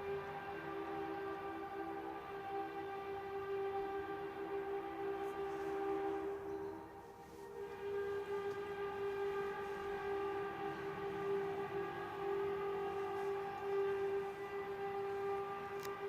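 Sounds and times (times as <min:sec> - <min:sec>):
droning horn-like tone: 0:00.0 - 0:16.0.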